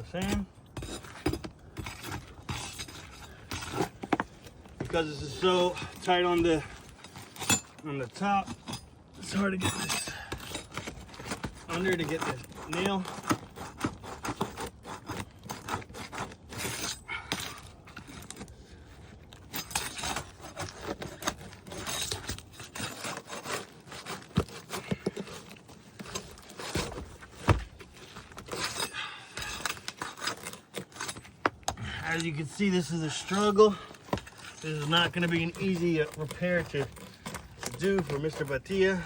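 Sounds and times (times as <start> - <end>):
metal pry bar scraping: 0.0 - 39.0.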